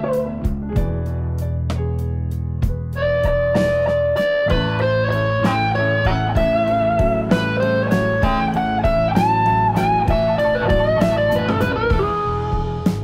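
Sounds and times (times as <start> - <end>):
electric guitar blues music: 0.0 - 13.0.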